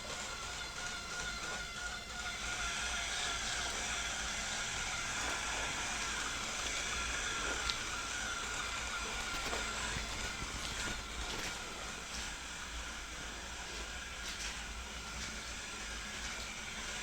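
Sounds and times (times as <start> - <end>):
robot vacuum motor whirring: 0.0 - 17.0.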